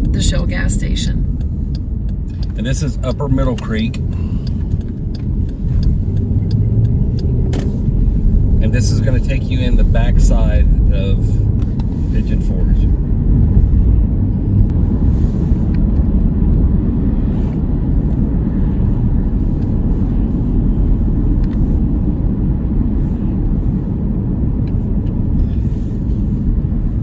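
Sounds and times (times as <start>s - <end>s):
car road noise from inside: 0.0s - 27.0s.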